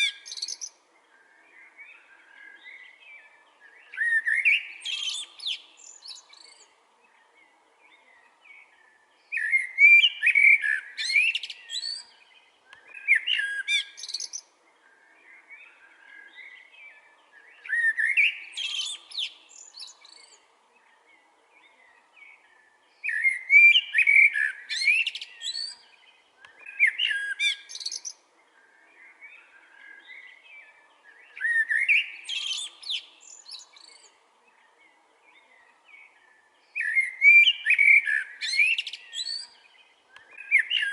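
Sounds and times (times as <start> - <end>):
blackbird warbling song: 0.0 - 40.9
quiet bird twittering: 0.0 - 40.9.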